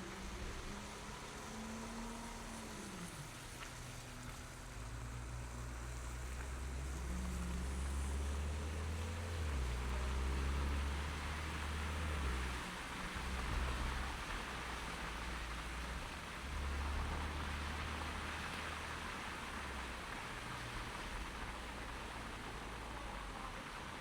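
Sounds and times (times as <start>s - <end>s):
road hiss: 0.0s - 24.0s
vehicle engine hum: 0.0s - 24.0s.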